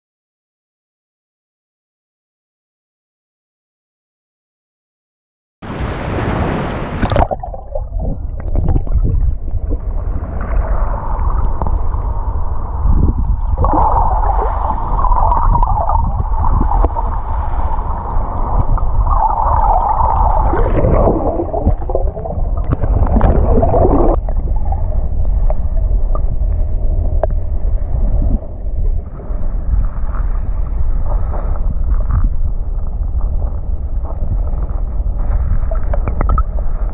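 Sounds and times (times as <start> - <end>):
underwater surge rumble: 5.7 - 36.9
muffled water gurgling: 6.9 - 36.9.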